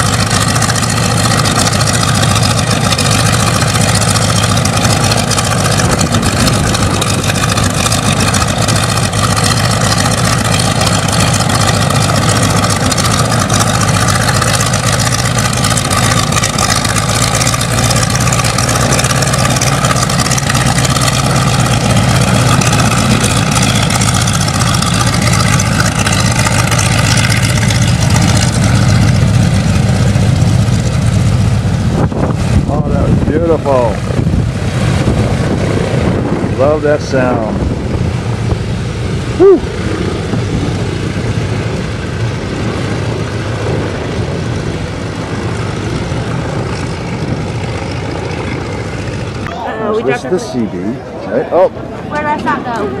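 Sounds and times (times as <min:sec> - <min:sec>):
propeller aircraft engine droning: 0:00.0 - 0:53.0.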